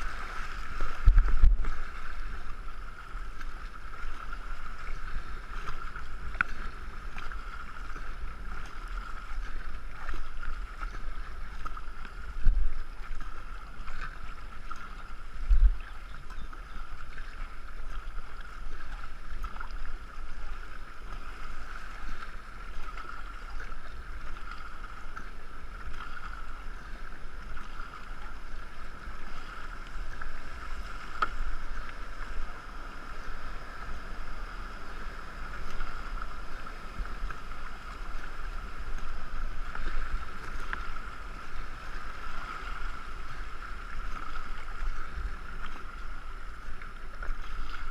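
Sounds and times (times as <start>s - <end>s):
water rushing: 0.0s - 47.9s
wind on microphone: 0.0s - 47.9s.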